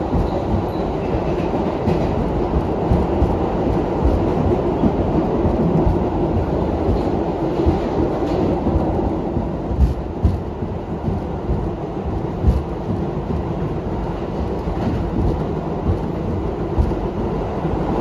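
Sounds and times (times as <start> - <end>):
subway car rumbling: 0.0 - 18.0
wheels clacking on rails: 0.0 - 18.0.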